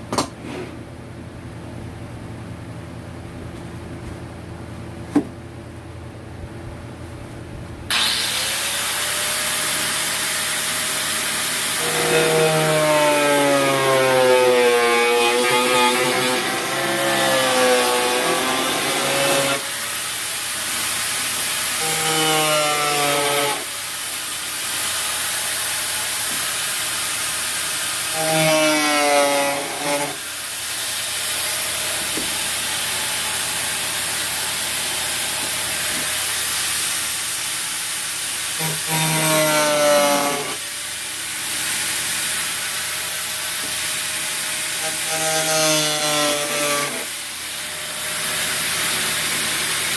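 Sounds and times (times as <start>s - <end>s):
saw cutting: 7.9s - 49.9s.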